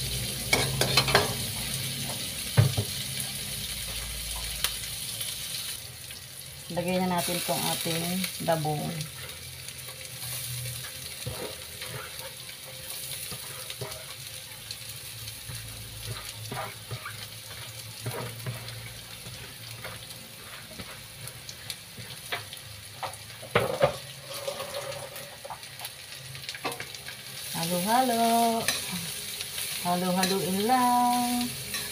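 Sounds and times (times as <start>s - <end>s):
food sizzling in a wok: 0.0s - 31.9s.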